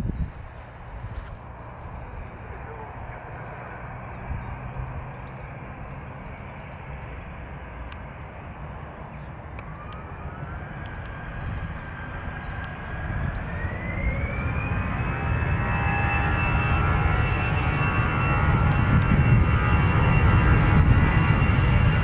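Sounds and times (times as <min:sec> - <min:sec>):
jet engines spooling up: 0:00.4 - 0:22.0.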